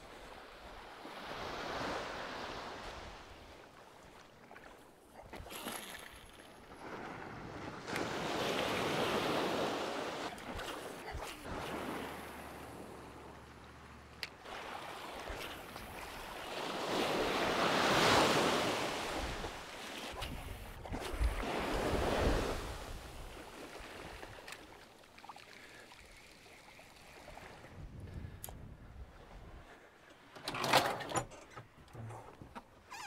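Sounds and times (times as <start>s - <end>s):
small waves breaking on sand: 0.0s - 30.0s.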